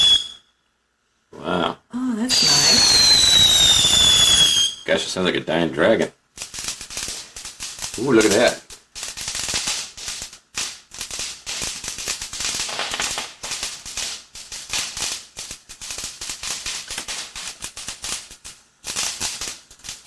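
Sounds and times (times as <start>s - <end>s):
firework crackling pops and hiss: 0.0s - 0.4s, 2.3s - 20.0s.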